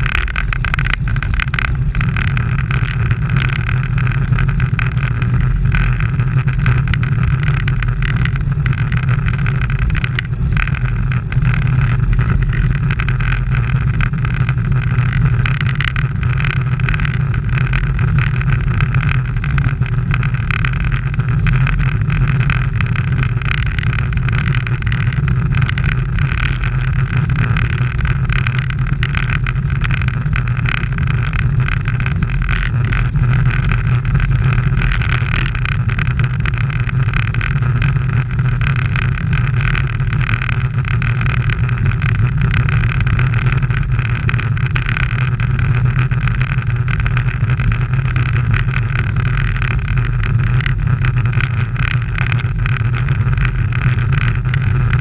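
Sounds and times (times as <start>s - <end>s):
bicycle tyre rumble on asphalt: 0.0s - 55.0s.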